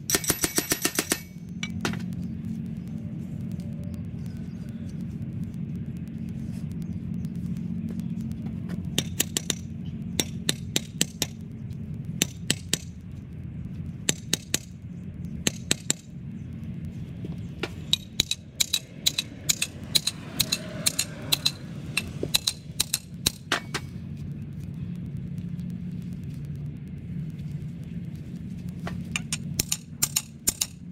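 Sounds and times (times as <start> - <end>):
sharp metallic clicks and taps: 0.0 - 30.9
steady low hum: 0.0 - 30.9.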